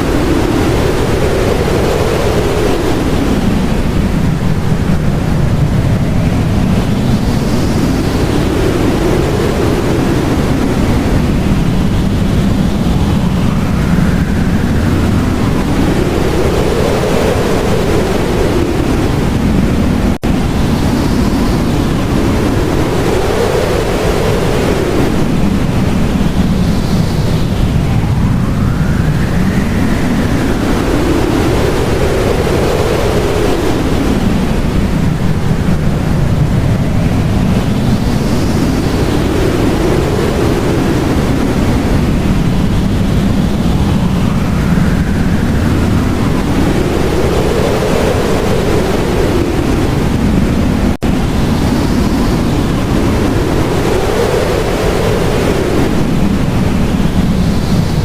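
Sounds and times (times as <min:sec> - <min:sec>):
blizzard wind howling: 0:00.0 - 0:58.0.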